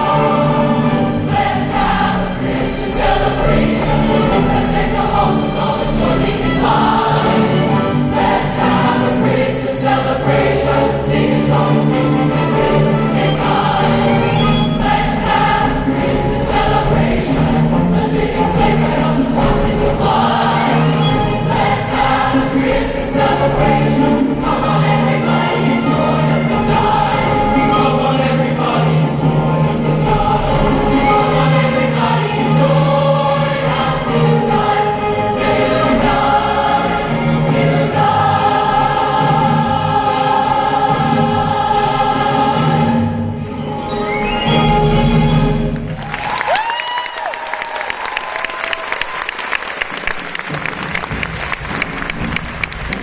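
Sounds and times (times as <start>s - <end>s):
choir singing: 0.0s - 46.0s
instrumental accompaniment: 0.0s - 46.1s.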